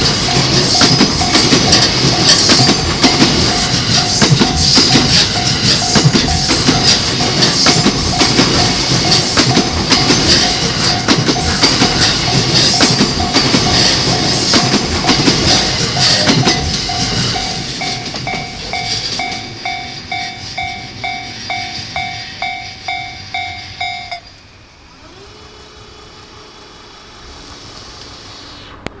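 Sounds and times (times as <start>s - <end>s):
level crossing alarm ringing: 0.0s - 24.6s
train clattering over rails: 0.0s - 29.0s.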